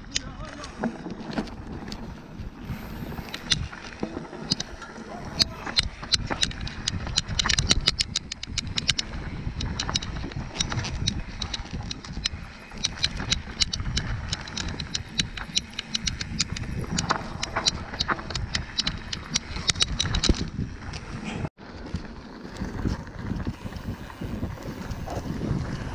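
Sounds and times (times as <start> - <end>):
bike frame rattling and clicking: 0.0 - 25.9.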